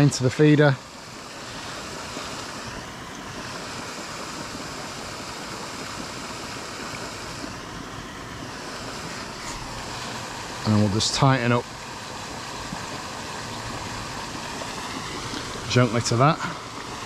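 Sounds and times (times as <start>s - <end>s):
aerator splashing water: 0.0s - 17.0s.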